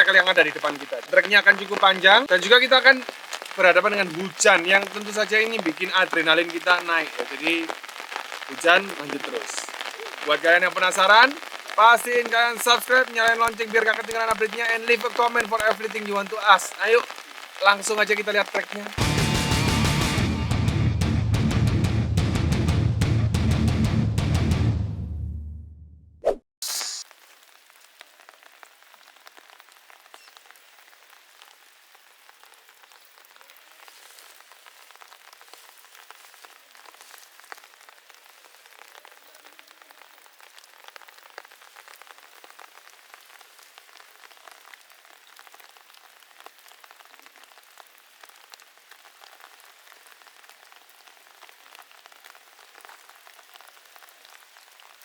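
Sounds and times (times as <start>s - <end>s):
steady rain falling: 0.0s - 24.6s, 27.0s - 55.0s.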